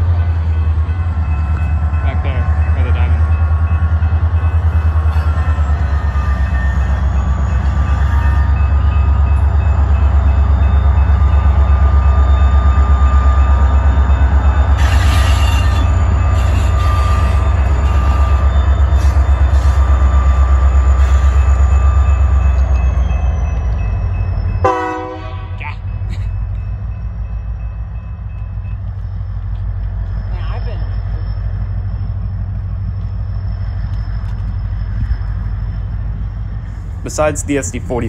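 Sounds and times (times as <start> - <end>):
diesel locomotive engine throbbing: 0.0 - 38.0.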